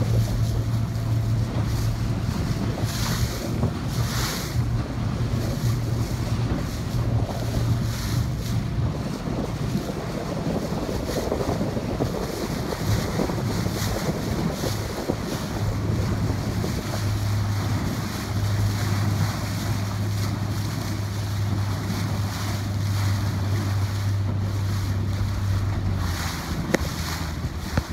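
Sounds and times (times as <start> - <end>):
choppy sea water: 0.0 - 27.9
wind buffeting microphone: 0.0 - 27.9.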